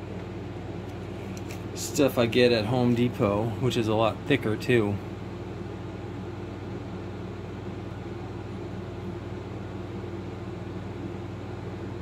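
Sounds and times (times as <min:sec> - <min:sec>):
soldering gun humming: 0:00.0 - 0:12.0.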